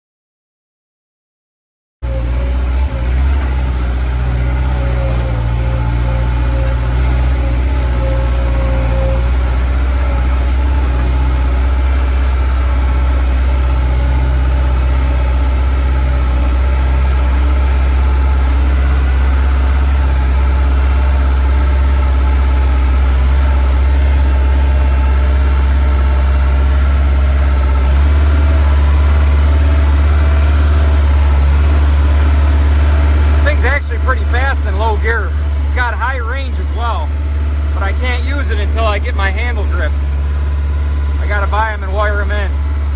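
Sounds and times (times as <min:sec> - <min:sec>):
skid steer engine running: 0:02.0 - 0:42.9.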